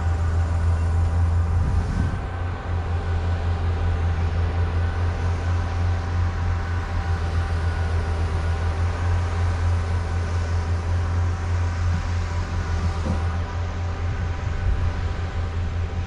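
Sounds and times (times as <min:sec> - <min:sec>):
drone motors humming: 0:00.0 - 0:16.0
propeller whines: 0:00.0 - 0:16.0.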